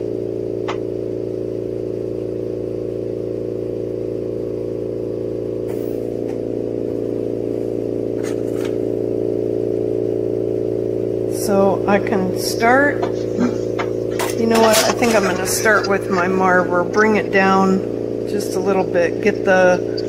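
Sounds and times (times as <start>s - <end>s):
torch droning hum: 0.0s - 20.0s.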